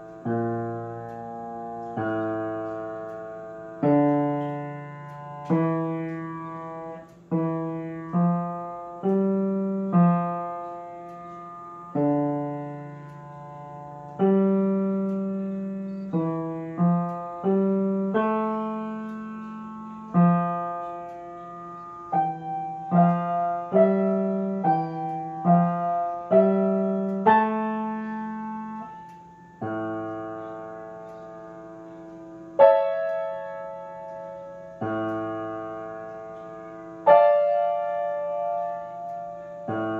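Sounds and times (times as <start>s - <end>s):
grand piano chords: 0.0s - 39.9s.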